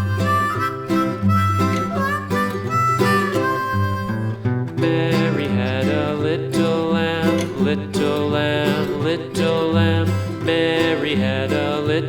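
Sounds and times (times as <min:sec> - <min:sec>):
country tune on harmonica and guitar: 0:00.0 - 0:12.0.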